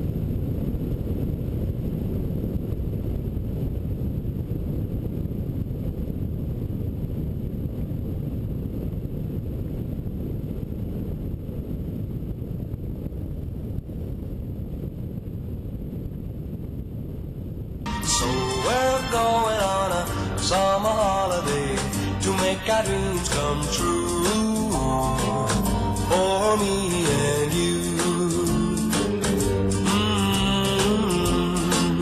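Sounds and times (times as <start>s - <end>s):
wind buffeting microphone: 0.0s - 28.3s.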